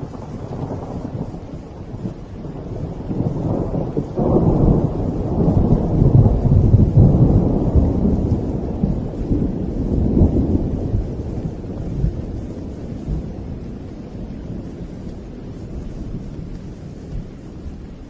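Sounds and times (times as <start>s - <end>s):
thunder crack and roll: 0.0s - 18.0s.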